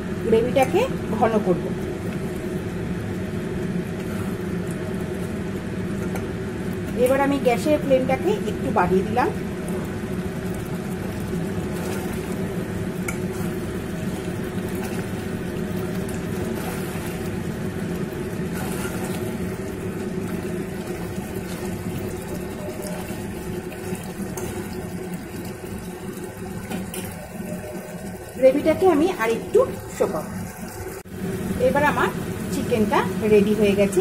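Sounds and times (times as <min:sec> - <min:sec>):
curry bubbling in a pot: 0:00.0 - 0:34.0.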